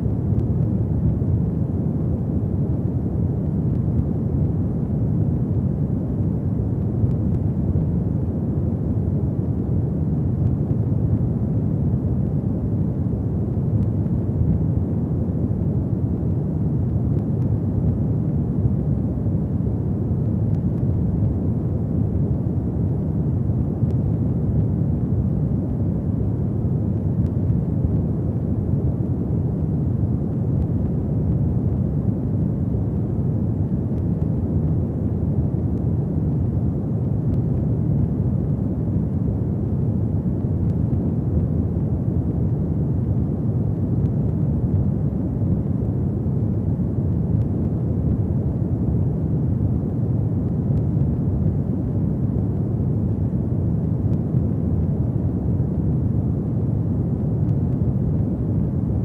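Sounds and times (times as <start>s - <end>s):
faint fire crackles: 0.0s - 59.0s.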